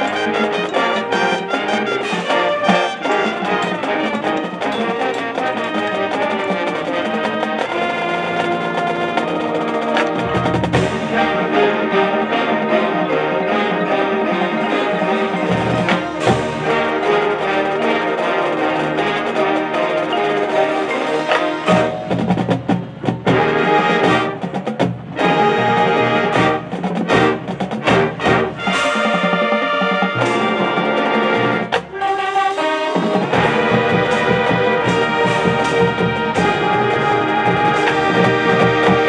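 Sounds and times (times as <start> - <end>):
marching band playing: 0.0 - 39.0.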